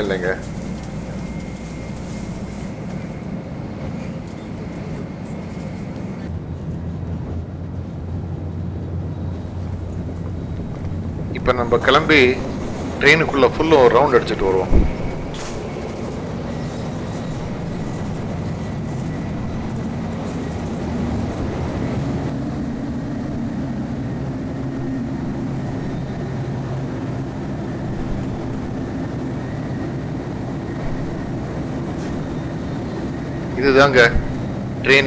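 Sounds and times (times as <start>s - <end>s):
train rumble inside passenger car: 0.0s - 35.0s.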